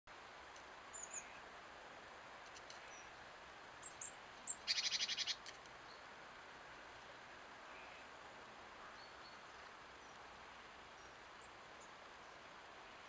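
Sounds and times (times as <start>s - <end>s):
songbirds calling: 0.6s - 1.6s, 2.3s - 13.0s.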